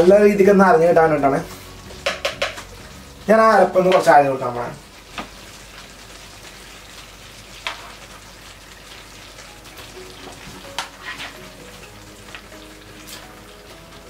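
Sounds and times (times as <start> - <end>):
curry simmering and sizzling: 0.0 - 14.0.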